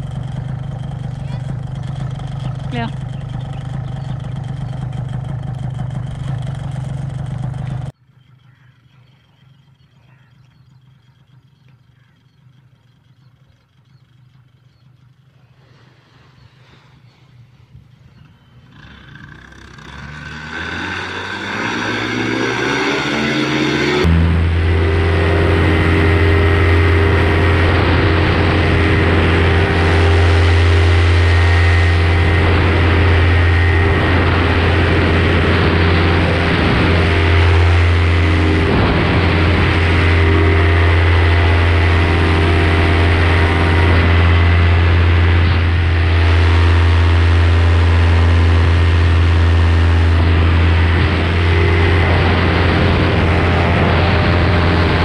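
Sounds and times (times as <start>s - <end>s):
paramotor engine droning: 0.0s - 55.0s.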